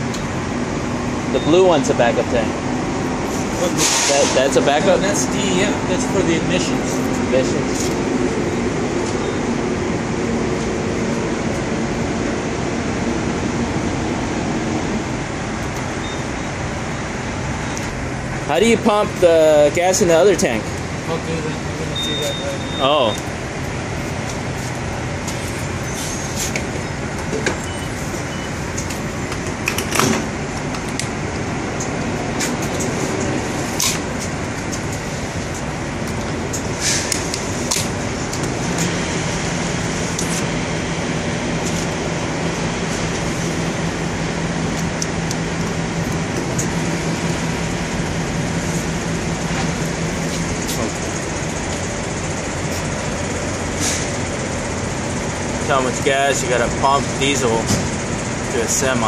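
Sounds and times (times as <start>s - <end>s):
fuel pump humming: 0.0s - 59.0s.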